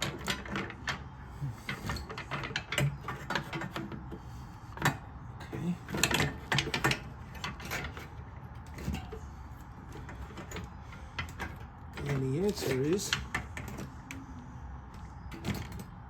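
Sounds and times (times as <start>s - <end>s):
fan shroud clunking against radiator: 0.0s - 16.0s.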